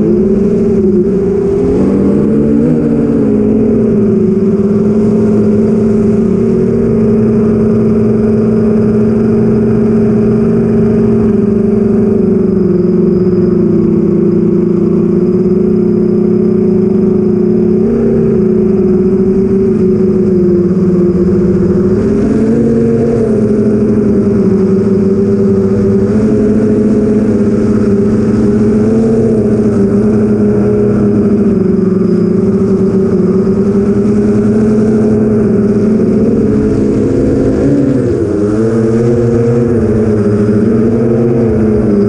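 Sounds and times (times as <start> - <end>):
drone motors humming: 0.0 - 42.0.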